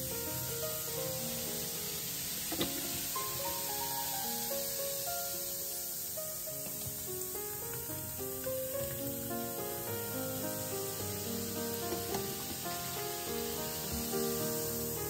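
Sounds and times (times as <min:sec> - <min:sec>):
foam fizzing in sink drain: 0:00.0 - 0:15.0
light melodic background music: 0:02.0 - 0:15.0.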